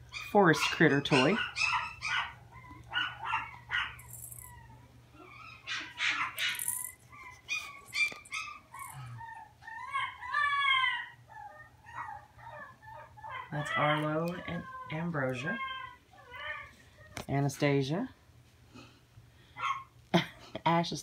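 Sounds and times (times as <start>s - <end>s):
puppies whimpering and yipping: 0.0s - 17.2s
puppy whining: 0.0s - 17.3s.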